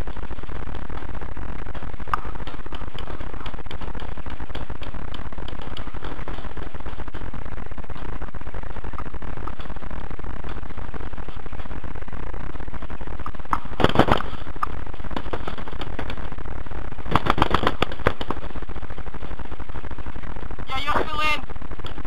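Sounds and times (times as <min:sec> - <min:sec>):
steady electrical buzz: 0:00.0 - 0:22.0.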